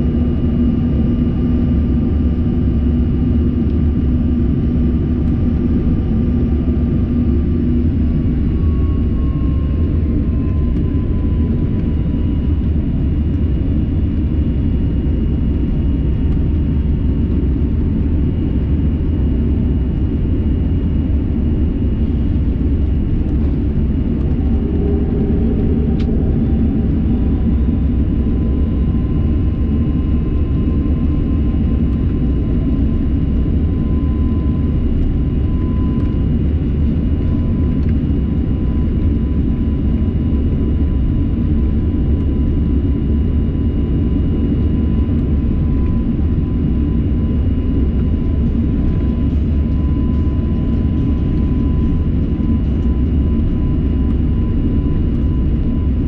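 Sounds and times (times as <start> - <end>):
jet engine rumble and whine: 0.0 - 56.0.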